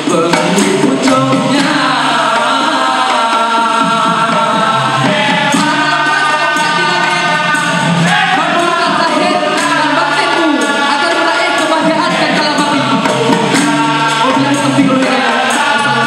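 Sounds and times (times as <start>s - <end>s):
chorus singing: 0.0s - 16.0s
hand percussion: 0.0s - 16.0s
person singing into microphone: 0.0s - 16.0s.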